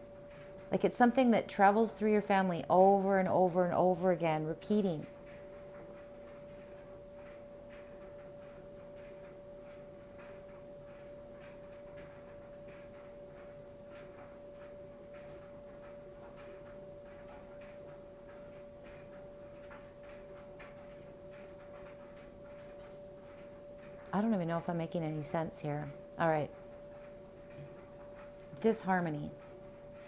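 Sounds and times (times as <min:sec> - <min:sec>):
faint irregular ticks: 0:00.0 - 0:30.0
steady pure tone: 0:00.0 - 0:30.0.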